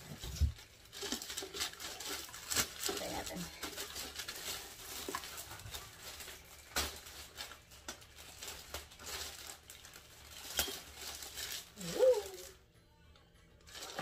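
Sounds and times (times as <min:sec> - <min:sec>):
sharp plastic crackles: 0:00.0 - 0:12.6, 0:13.6 - 0:14.0
plastic bag crinkling: 0:00.0 - 0:12.7, 0:13.6 - 0:14.0.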